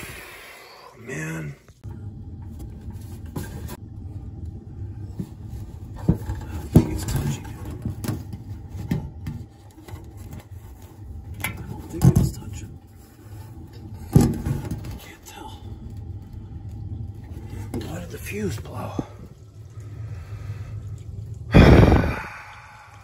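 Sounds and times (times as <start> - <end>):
low steady rumble: 1.0 - 23.0.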